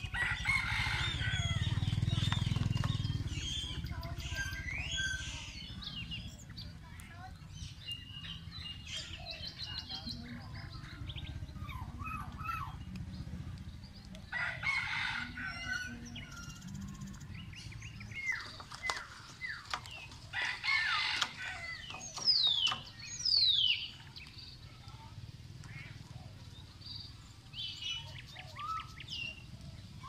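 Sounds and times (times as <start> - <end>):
birds chirping: 0.0 - 30.0
harsh bird calls: 0.0 - 30.0
low steady rumble: 0.0 - 30.0.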